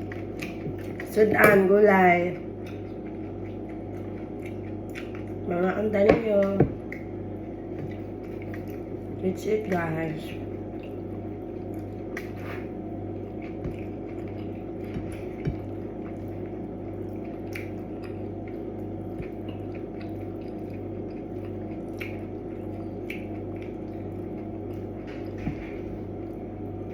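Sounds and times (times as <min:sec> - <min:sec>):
wet chewing: 0:00.0 - 0:09.2, 0:10.4 - 0:26.9
low background hum: 0:00.0 - 0:26.9.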